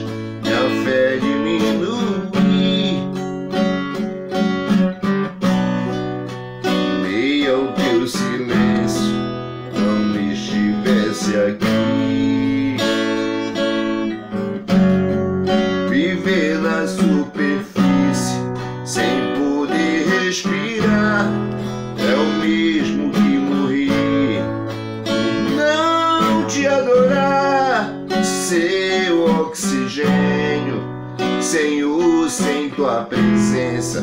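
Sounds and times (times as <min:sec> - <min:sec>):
man singing: 0:00.0 - 0:03.3, 0:06.6 - 0:14.8, 0:15.5 - 0:34.0
acoustic guitar strumming: 0:00.0 - 0:34.0.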